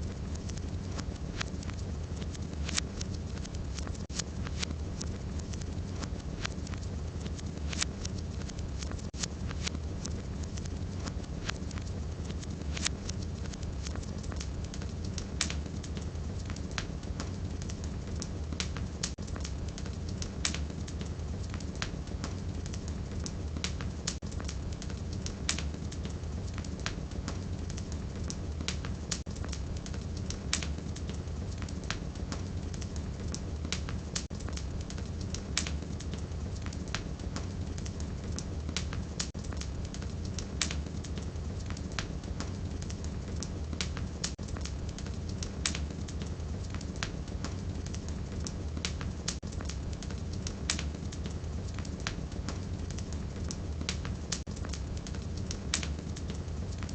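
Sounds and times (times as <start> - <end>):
fire rumbling: 0.0 - 56.9
firewood crackling and popping: 0.0 - 56.9.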